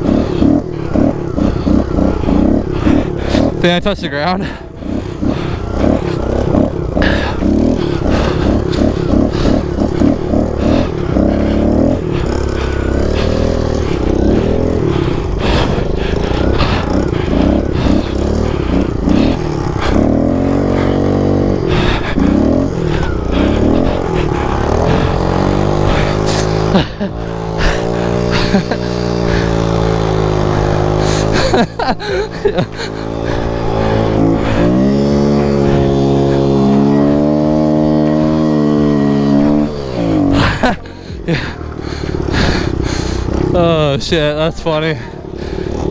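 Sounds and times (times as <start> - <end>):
pit bike engines revving: 0.0 - 45.9.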